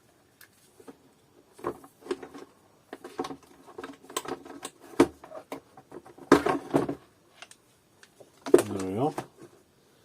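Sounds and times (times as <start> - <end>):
plastic parts clicking and knocking: 0.8 - 9.6.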